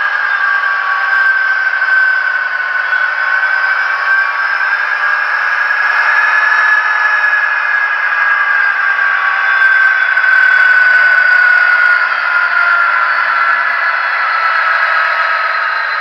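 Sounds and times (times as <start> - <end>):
tinny diesel engine drone from speaker: 0.0 - 16.0.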